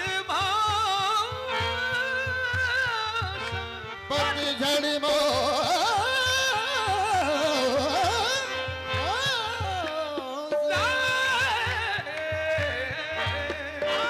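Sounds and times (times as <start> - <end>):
harmonium chords: 0.0 - 14.0.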